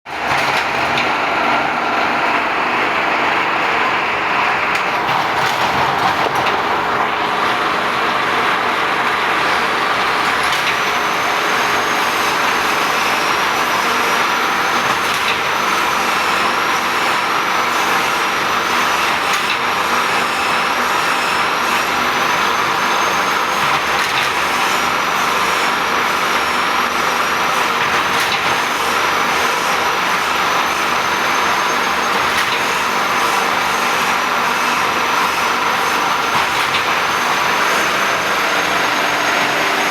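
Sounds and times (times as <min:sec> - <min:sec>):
machine mechanical rush: 0:00.1 - 0:39.9.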